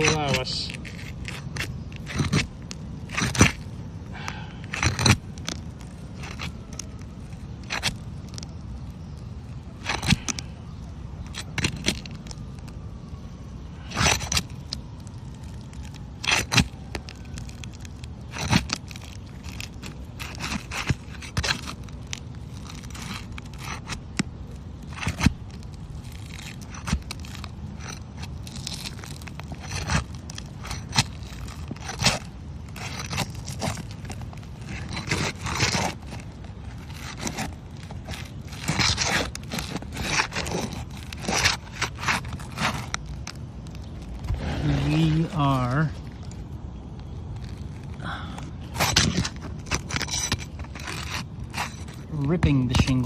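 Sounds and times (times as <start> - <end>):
pry bar scraping roof shingles: 0.0 - 53.0.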